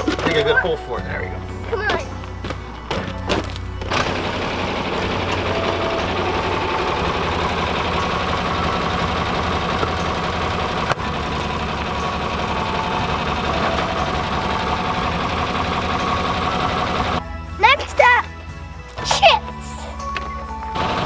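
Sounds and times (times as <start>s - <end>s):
tractor engine running: 0.0s - 17.8s, 20.1s - 21.0s.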